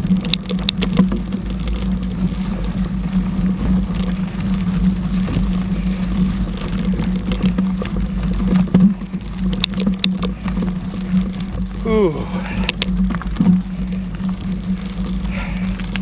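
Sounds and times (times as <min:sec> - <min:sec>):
bike tyres rumbling on trail: 0:00.0 - 0:16.0.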